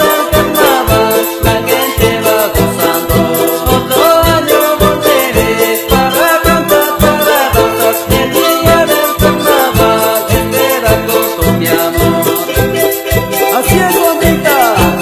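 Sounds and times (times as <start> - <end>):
andean folk music with quick beat: 0.0 - 15.0.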